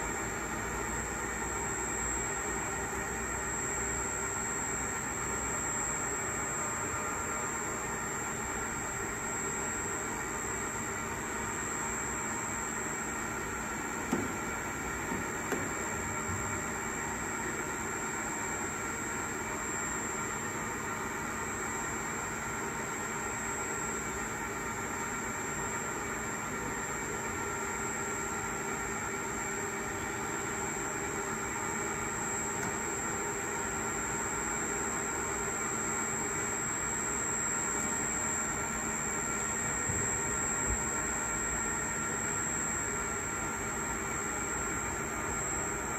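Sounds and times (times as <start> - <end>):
machinery hum: 0.0 - 45.9.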